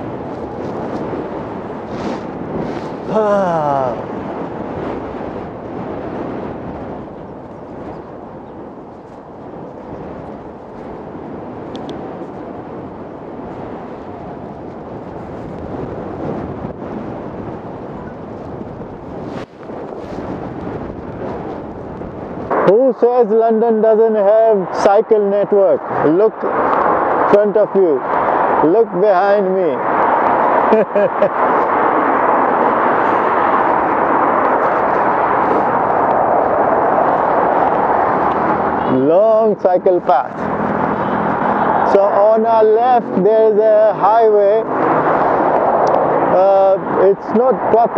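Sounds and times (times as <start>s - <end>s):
road traffic: 0.0s - 47.9s
wind rush on microphone: 0.0s - 47.9s.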